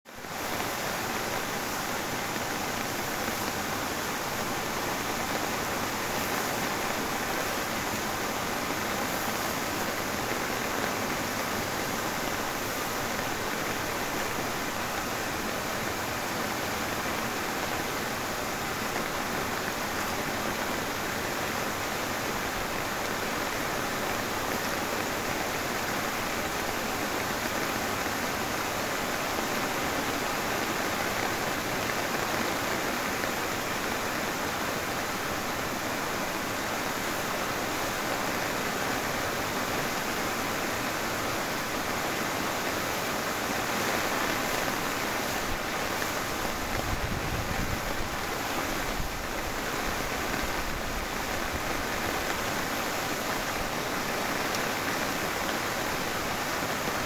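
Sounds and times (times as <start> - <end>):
heavy rain pouring: 0.1 - 57.0.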